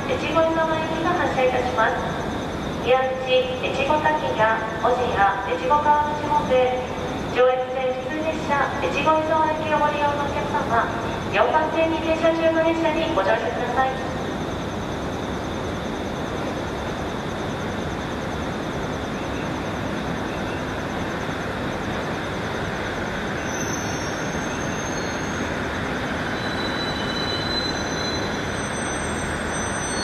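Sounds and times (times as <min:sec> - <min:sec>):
faint high whine: 0:00.0 - 0:30.0
trains running at station: 0:00.0 - 0:30.0.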